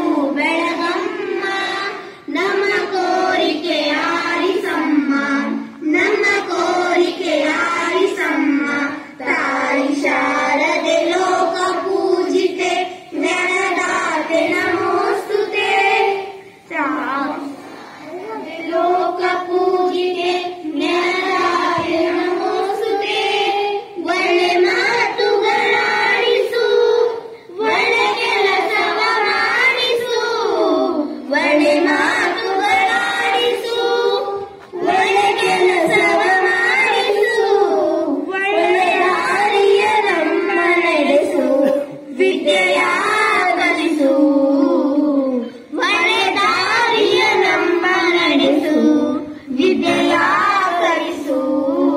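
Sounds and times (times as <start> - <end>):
children singing together: 0.0 - 51.9.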